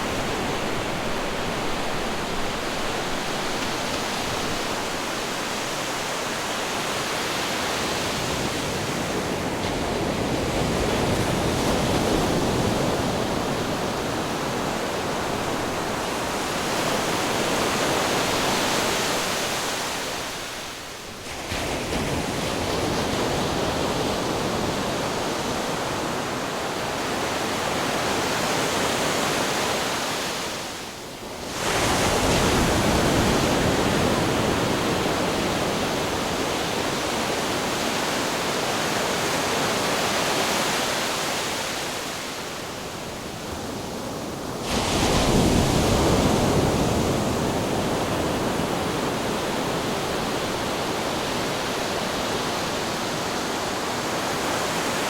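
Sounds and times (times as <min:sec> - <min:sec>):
ocean surf: 0:00.0 - 0:55.0
wind: 0:00.0 - 0:55.0.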